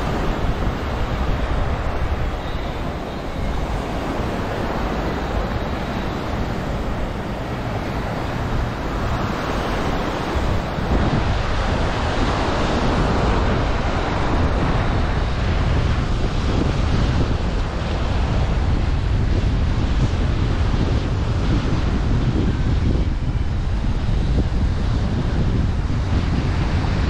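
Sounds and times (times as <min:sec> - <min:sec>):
small waves breaking on sand: 0:00.0 - 0:22.8
wind buffeting microphone: 0:00.0 - 0:27.0.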